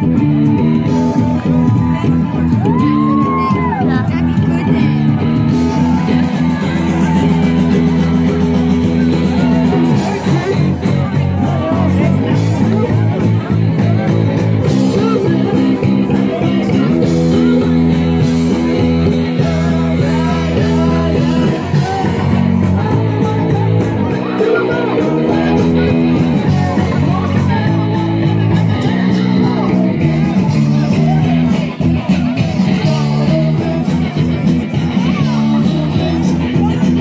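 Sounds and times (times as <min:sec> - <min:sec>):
guitars: 0:00.0 - 0:37.0
live rock band playing: 0:00.0 - 0:37.0
person singing: 0:00.0 - 0:37.0.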